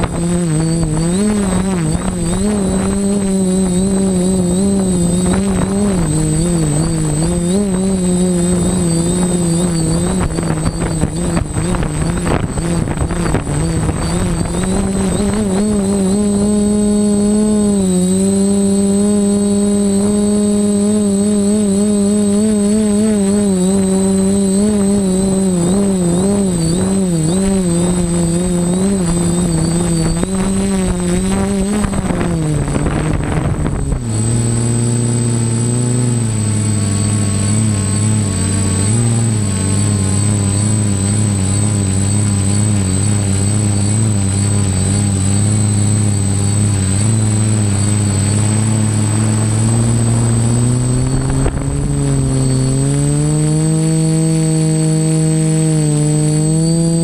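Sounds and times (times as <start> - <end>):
drone motors and propellers buzzing: 0.0 - 57.0
thin high whine: 0.0 - 57.0.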